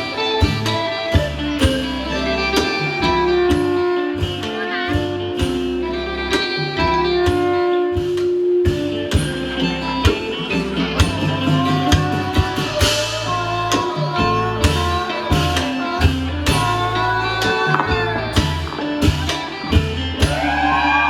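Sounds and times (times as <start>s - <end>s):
bass line: 0.0s - 21.0s
drum strikes: 0.0s - 21.0s
held melody notes: 0.0s - 21.0s
plucked strings: 0.0s - 21.0s.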